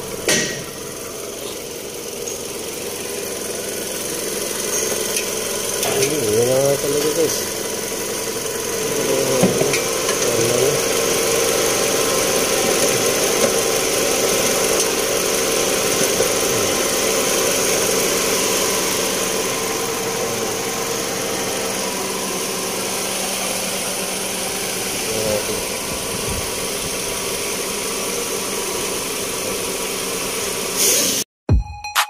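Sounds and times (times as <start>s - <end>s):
car engine idling: 0.0s - 30.8s.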